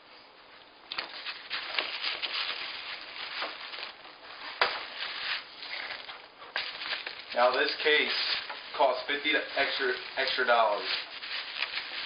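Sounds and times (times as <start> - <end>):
cardboard packaging rustling: 0.9 - 12.0.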